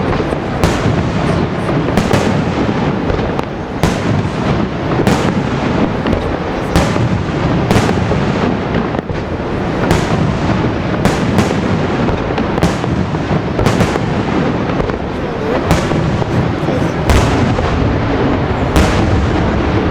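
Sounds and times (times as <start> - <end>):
fireworks rumbling bursts: 0.0 - 19.9
fireworks sharp cracks: 0.0 - 19.9.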